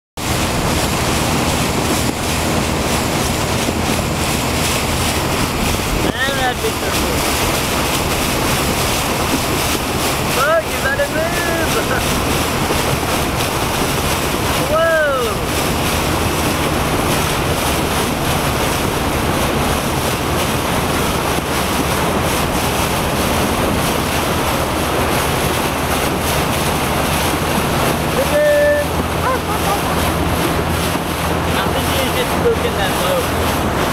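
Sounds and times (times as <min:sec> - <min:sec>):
plane engine drone: 0:00.2 - 0:33.9
wind noise on microphone: 0:00.2 - 0:33.9.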